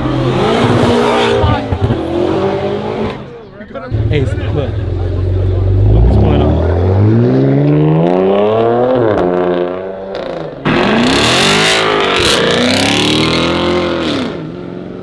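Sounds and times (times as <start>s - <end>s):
car engine revving: 0.0s - 14.8s
tyres rushing on road: 0.0s - 15.0s.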